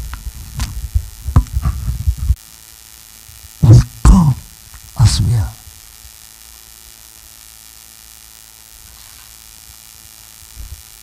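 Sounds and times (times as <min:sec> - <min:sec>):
electrical mains hum: 0:00.0 - 0:11.0
microphone hiss: 0:00.0 - 0:11.0.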